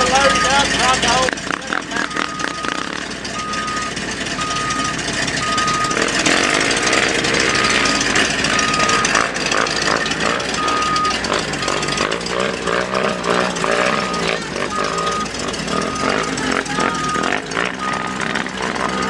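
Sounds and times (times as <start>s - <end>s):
vehicle reversing alarm beeping: 0.0s - 19.0s.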